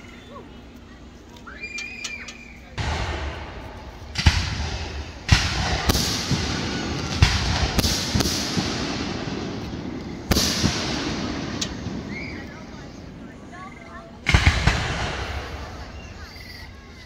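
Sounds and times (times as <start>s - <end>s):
fireworks booming with echo: 2.7s - 17.0s.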